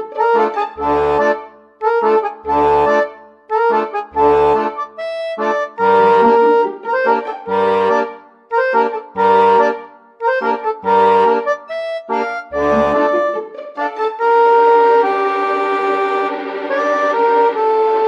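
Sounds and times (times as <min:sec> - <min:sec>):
accordion playing bouncy chords: 0:00.0 - 0:18.0
bass line: 0:00.0 - 0:18.0.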